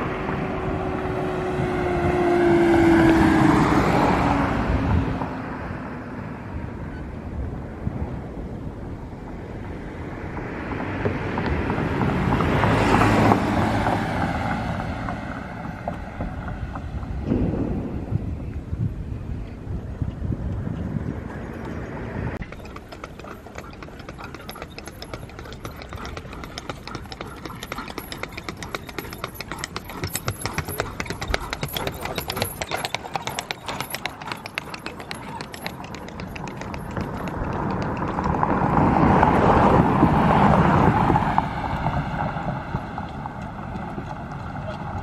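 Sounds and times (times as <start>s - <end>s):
horse hooves clip-clopping on asphalt: 0.0s - 4.3s, 9.3s - 17.3s, 20.1s - 45.0s
car passing: 0.0s - 19.2s, 20.6s - 45.0s.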